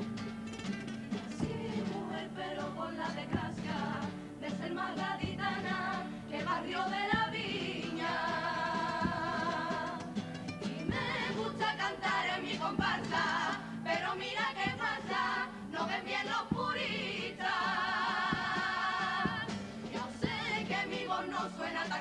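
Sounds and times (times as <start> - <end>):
guitar accompaniment: 0.0 - 22.0
chorus singing in harmony: 1.3 - 22.0.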